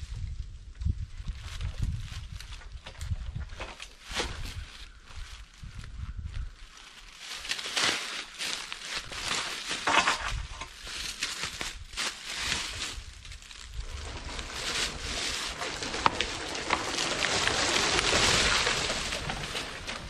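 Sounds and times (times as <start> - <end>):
dry leaves crunching and crackling: 3.9 - 20.0.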